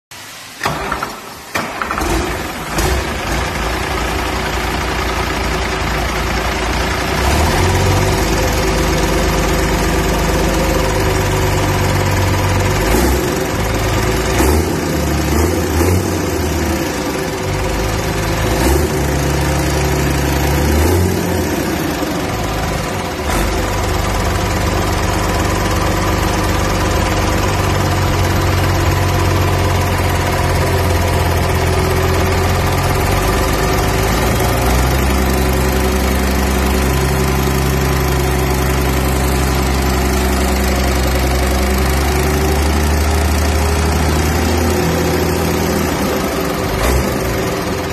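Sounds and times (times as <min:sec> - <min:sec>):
diesel engine idling: 0:00.3 - 0:47.9.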